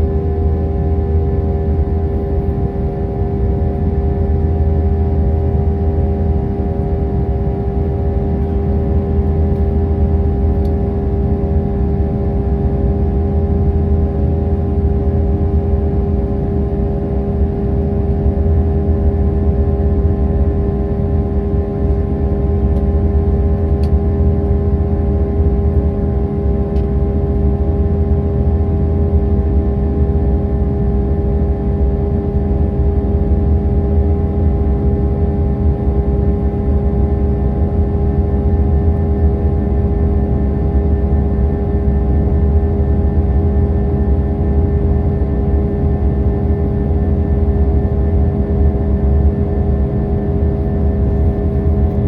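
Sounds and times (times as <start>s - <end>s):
jet engine and airflow drone: 0.0s - 52.0s.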